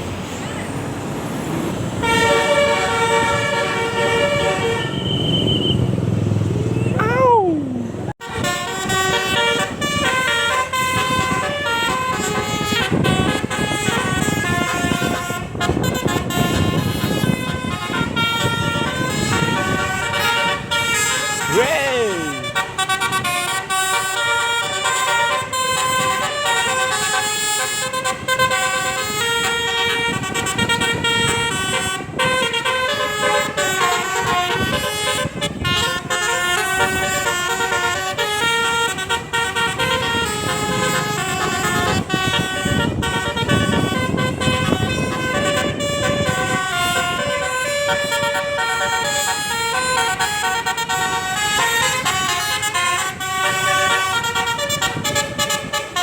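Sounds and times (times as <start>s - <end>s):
melodic bus horns: 1.7s - 5.9s, 8.0s - 56.0s.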